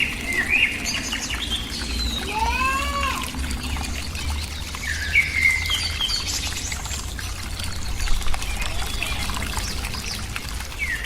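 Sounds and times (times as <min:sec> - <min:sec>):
small birds chirping: 0:00.0 - 0:11.0
trickling water: 0:00.0 - 0:11.0.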